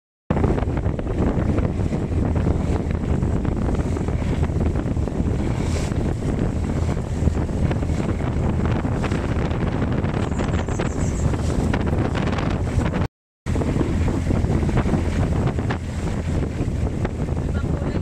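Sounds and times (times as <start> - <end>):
boat rushing through choppy water: 0.3 - 18.0
wind buffeting microphone: 0.3 - 18.0.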